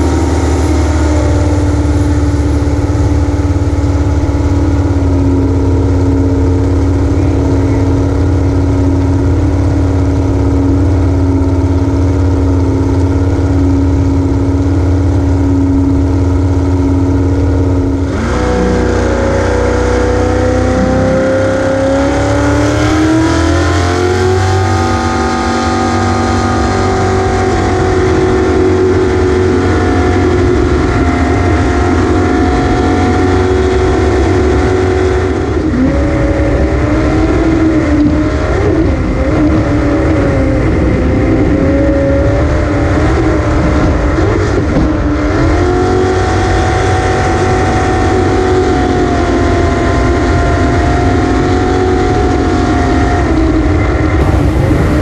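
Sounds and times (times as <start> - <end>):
jet boat engine running hard: 0.0 - 55.0.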